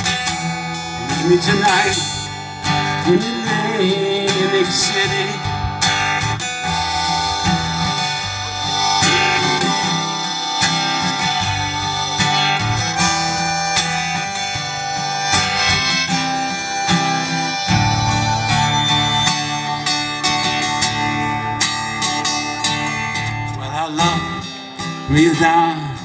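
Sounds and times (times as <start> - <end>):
harmonica melody: 0.0 - 26.0
strummed acoustic guitar: 0.0 - 26.0.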